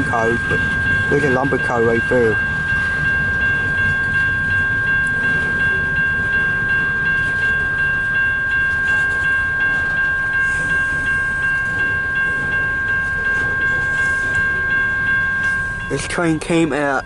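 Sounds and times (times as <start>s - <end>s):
crossing warning bell ringing: 0.0s - 17.0s
freight train cars rumbling: 0.0s - 17.0s.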